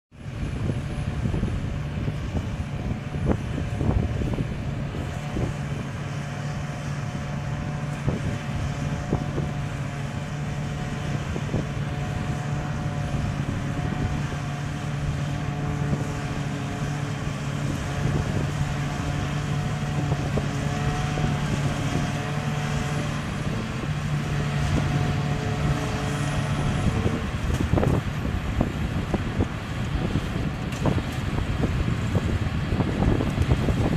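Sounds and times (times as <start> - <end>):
diesel engine running under load: 0.1 - 33.9.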